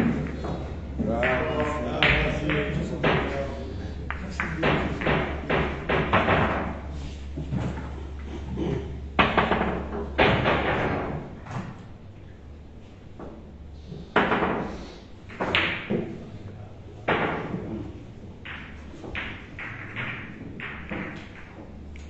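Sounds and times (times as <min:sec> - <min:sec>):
billiard balls knocking: 0:00.0 - 0:12.0, 0:13.1 - 0:22.0
steady low hum: 0:00.0 - 0:22.0.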